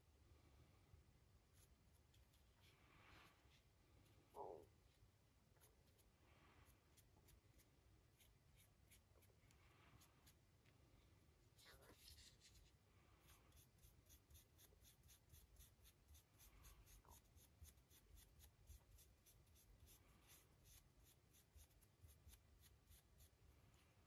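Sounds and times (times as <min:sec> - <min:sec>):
paintbrush scratching on resin figure: 0:01.5 - 0:10.4, 0:11.5 - 0:23.5.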